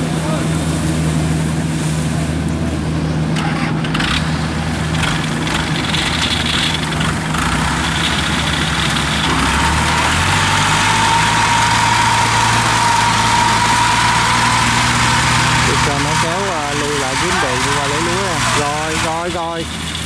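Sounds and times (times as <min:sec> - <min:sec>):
combine harvester engine running: 0:00.0 - 0:20.0
high whine: 0:00.0 - 0:20.0.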